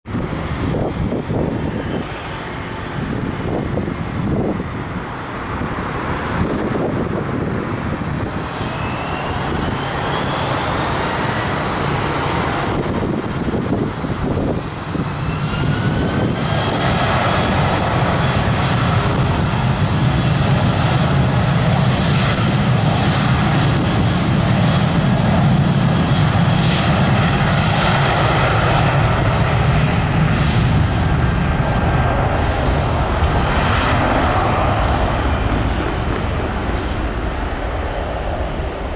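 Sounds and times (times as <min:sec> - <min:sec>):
wind buffeting microphone: 0:00.0 - 0:38.9
jet engines spooling up: 0:00.1 - 0:38.9.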